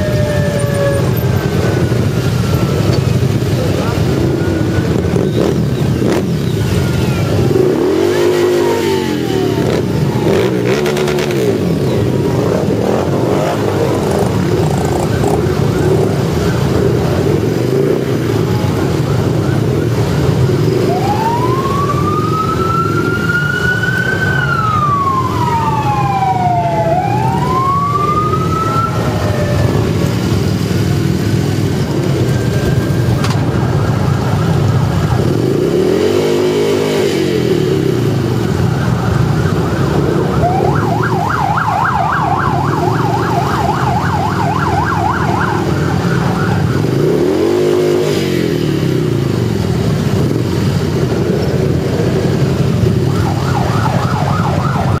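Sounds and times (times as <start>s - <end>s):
siren wailing: 0.0s - 16.7s, 17.7s - 30.7s, 31.8s - 34.5s, 38.1s - 47.9s, 52.1s - 55.0s
motorcycle engines running: 0.0s - 55.0s
motorcycle engine revving: 0.6s - 55.0s.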